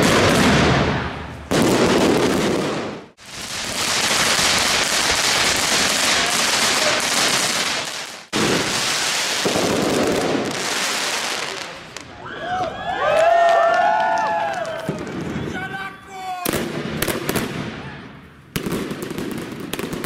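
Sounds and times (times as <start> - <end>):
fireworks bursting and crackling: 0.0 - 12.2, 14.5 - 15.8, 16.4 - 20.0.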